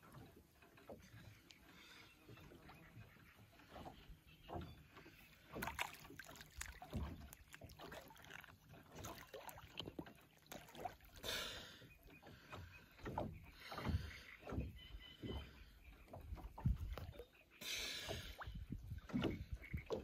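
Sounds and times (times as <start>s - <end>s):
water splashes: 0.0s - 20.0s
waves lapping against boat: 0.0s - 20.0s.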